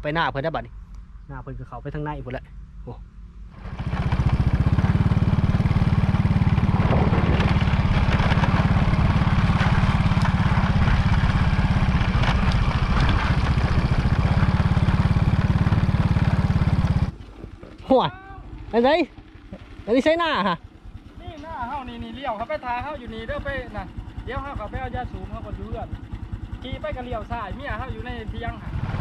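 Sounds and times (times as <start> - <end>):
motorcycle engine running: 2.6 - 29.0.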